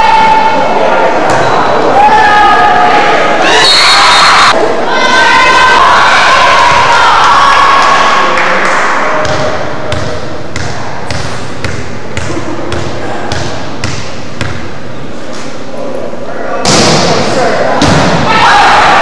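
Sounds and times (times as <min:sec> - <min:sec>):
crowd chatter: 0:00.0 - 0:19.0.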